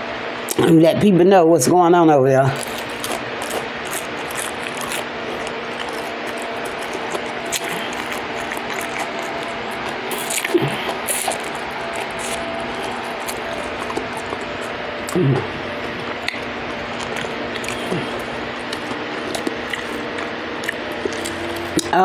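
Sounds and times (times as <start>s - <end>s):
faint background hum: 0.0s - 22.0s
wet chewing and smacking: 2.5s - 21.9s.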